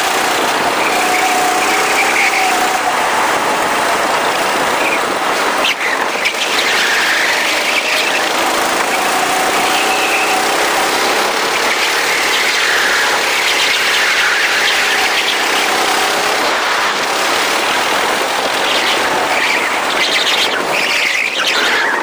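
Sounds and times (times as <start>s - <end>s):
go-kart engines running: 0.0s - 22.0s
steady rushing noise: 0.0s - 22.0s.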